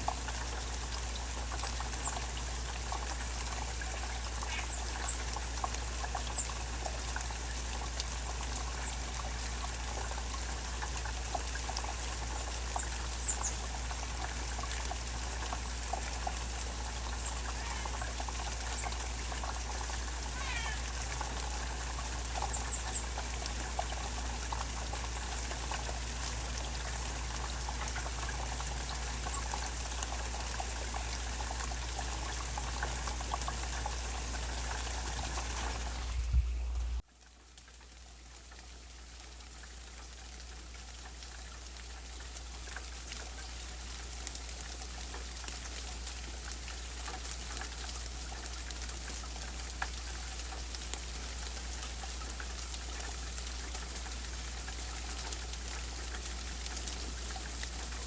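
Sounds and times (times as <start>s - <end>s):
rain falling and dripping: 0.0s - 58.0s.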